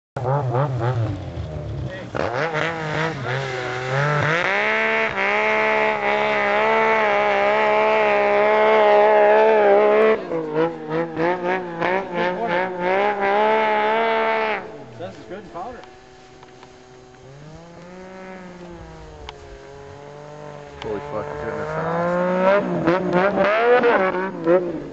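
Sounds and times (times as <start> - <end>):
snowmobile engine revving: 0.2 - 24.9.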